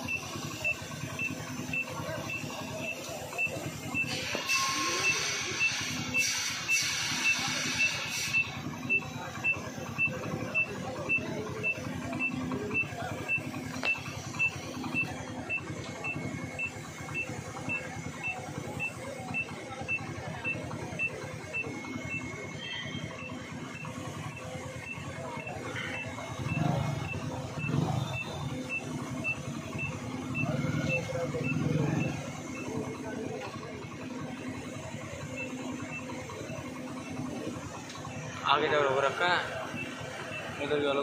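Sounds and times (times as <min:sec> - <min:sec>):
short high electronic beeps: 0:00.0 - 0:40.6
low rumble of engines: 0:00.0 - 0:41.0.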